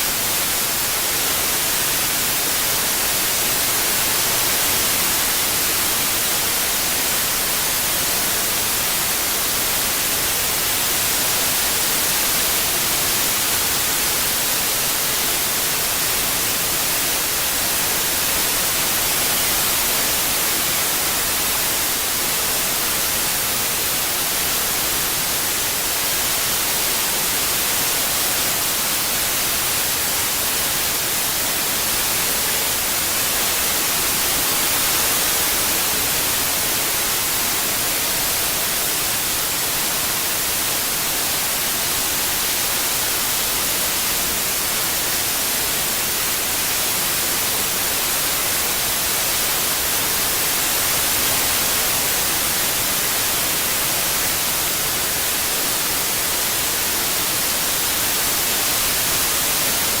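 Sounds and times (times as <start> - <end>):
white noise hiss: 0.0 - 60.0.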